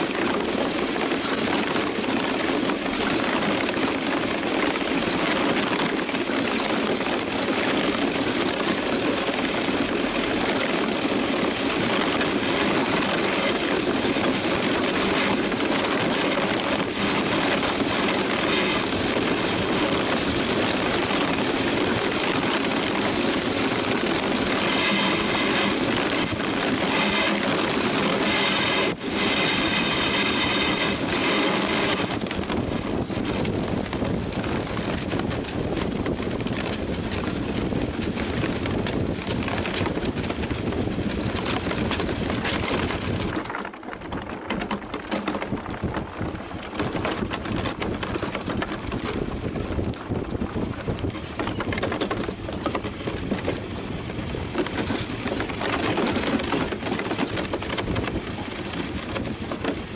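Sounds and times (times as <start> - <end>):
iceboat runners rumbling over ice: 0.0 - 59.9.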